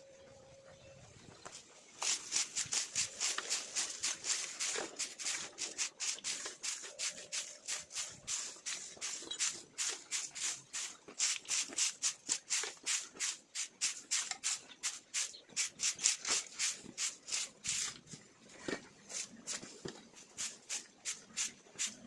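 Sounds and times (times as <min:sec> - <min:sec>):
rhythmic scraping strokes: 0:01.5 - 0:22.0.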